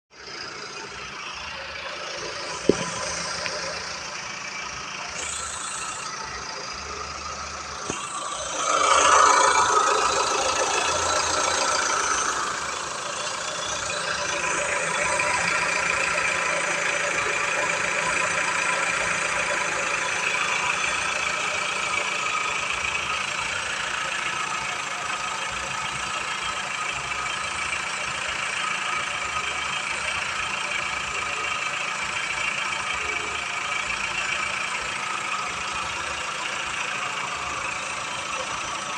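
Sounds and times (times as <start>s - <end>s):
engine running and revving: 0.1s - 38.9s.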